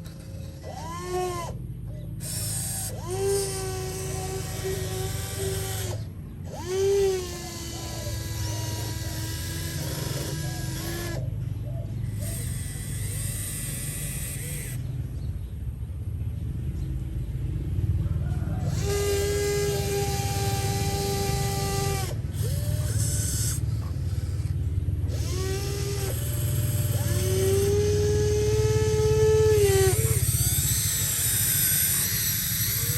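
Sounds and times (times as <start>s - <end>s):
small electric motor whining: 0.0s - 11.4s, 12.0s - 15.0s, 18.6s - 32.9s.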